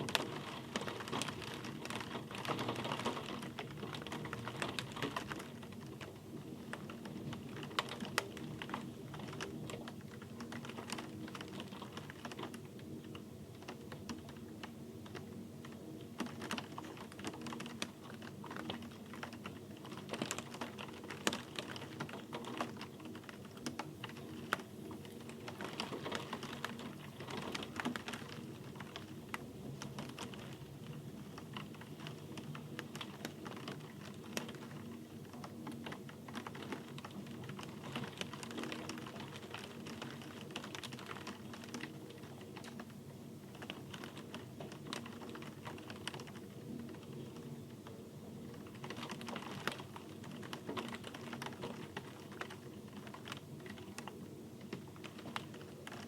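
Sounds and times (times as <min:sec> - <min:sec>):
raindrops ticking: 0:00.0 - 0:56.0
soft steady rain hiss: 0:00.0 - 0:56.0.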